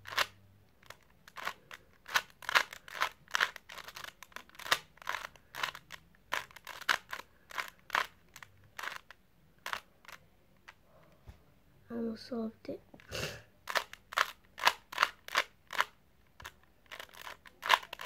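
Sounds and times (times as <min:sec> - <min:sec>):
puzzle cube clicking as twisted: 0:00.0 - 0:10.2, 0:13.0 - 0:18.0.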